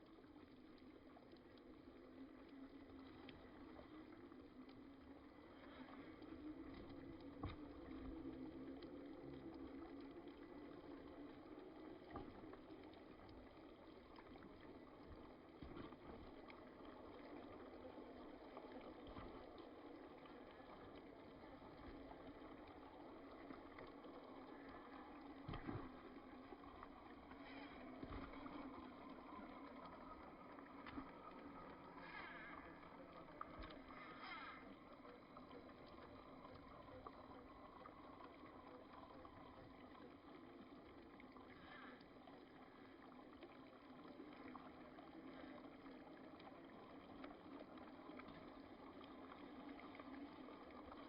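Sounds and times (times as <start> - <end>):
faint watery noise: 0.0 - 51.0.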